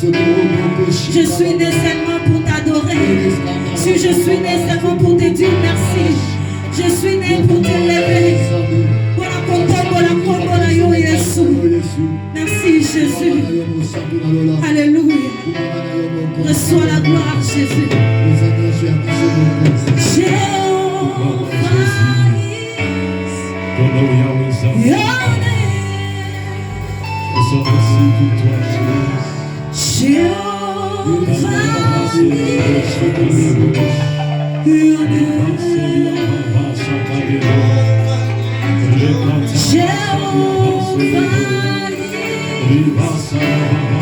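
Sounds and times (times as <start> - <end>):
female and male voices singing: 0.0 - 44.0
instrumental backing music: 0.0 - 44.0.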